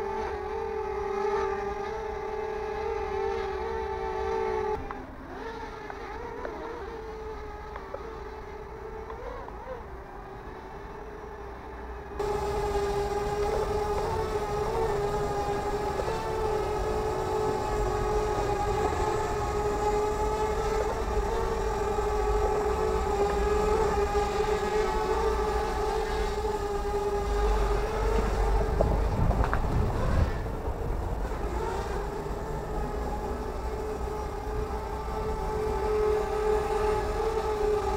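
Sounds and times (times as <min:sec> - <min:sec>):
toy drone propellers humming: 0:00.0 - 0:11.5, 0:12.2 - 0:37.9.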